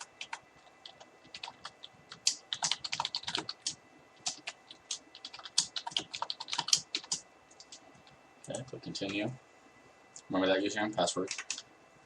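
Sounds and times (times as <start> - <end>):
keyboard typing: 0.0 - 9.2, 11.1 - 11.6.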